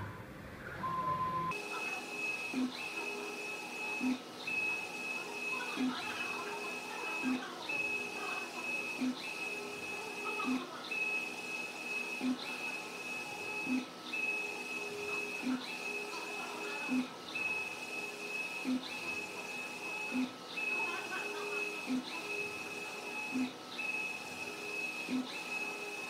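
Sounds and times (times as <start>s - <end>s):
printer carriage whine: 1.5s - 26.0s.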